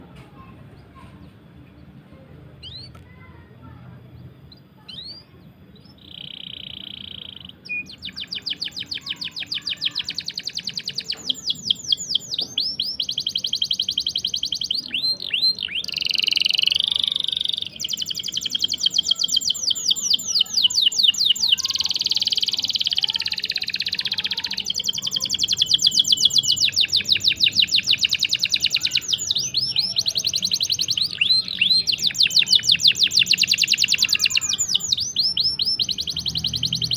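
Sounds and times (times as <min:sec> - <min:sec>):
canary singing trills: 0:02.6 - 0:03.0, 0:04.2 - 0:36.9.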